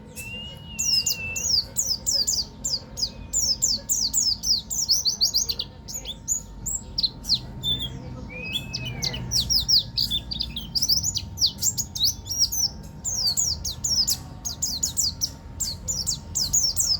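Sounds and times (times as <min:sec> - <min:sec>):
songbird whistling: 0:00.0 - 0:16.9.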